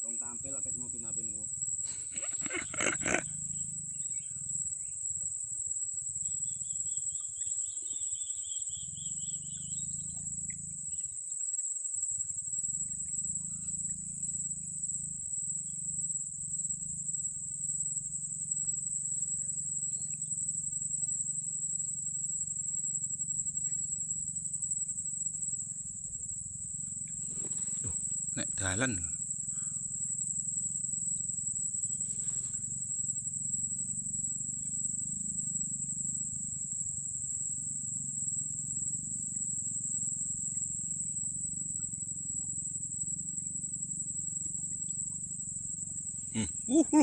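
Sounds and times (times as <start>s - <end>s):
insects trilling: 0.0s - 47.0s
lower pulsing insect trill: 0.0s - 47.0s.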